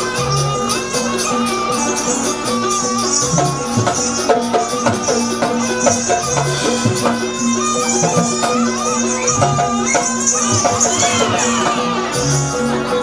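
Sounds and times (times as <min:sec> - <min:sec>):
percussion ensemble dance music: 0:00.0 - 0:13.0.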